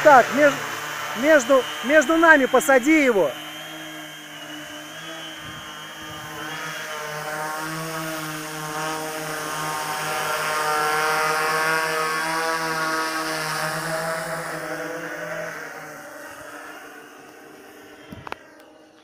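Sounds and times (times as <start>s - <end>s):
multirotor drone propeller hum: 0.0s - 19.0s.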